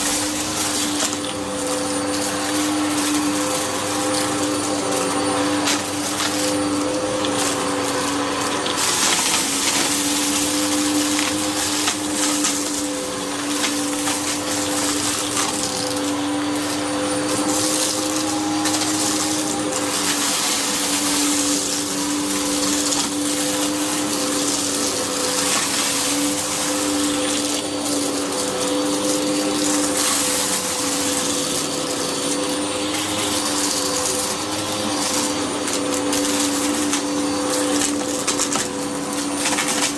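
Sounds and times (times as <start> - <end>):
debris crackling in vacuum: 0.0 - 39.9
vacuum cleaner running: 0.0 - 39.9.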